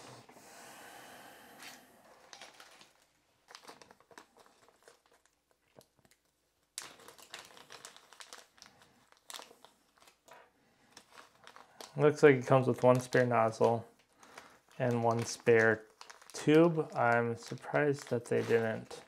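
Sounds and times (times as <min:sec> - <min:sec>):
plastic bags crinkling: 0:02.2 - 0:19.0.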